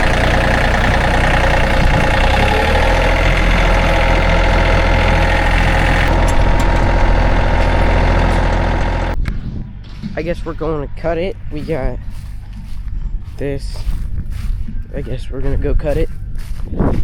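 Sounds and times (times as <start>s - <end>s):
tractor engine running: 0.0s - 16.1s.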